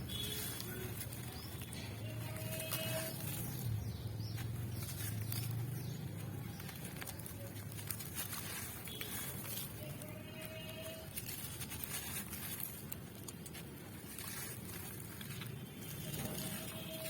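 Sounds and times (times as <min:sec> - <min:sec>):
charcoal crumbling and crackling: 0:00.0 - 0:17.0.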